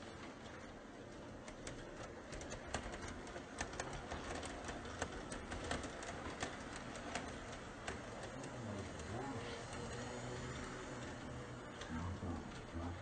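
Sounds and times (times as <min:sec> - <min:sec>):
model train rumbling on track: 0:00.0 - 0:13.0
sharp track clicks: 0:01.4 - 0:13.0.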